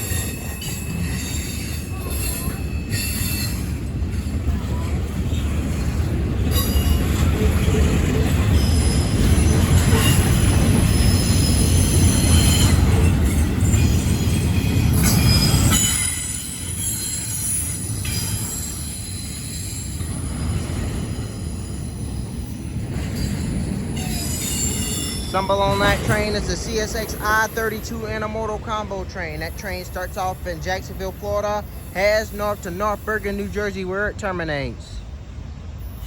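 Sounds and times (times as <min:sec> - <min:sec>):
train wheels squealing: 0:00.0 - 0:28.2, 0:29.2 - 0:33.6, 0:35.0 - 0:36.0
freight train rumble: 0:00.0 - 0:36.0.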